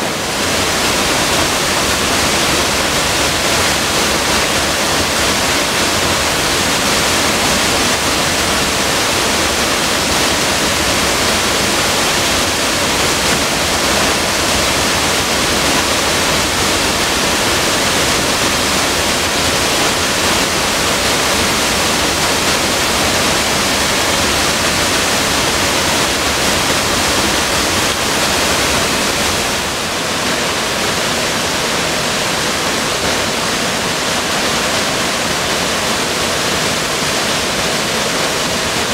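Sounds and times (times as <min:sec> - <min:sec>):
waterfall rushing into pool: 0:00.0 - 0:38.9.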